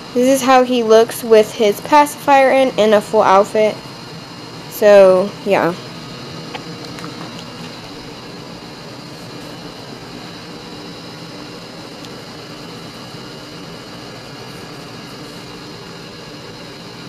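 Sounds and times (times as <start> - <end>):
air conditioning hum and hiss: 0.0 - 17.0.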